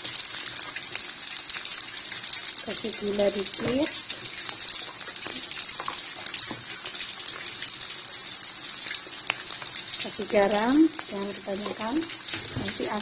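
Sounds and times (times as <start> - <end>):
vegetables sizzling in wok: 0.0 - 13.0.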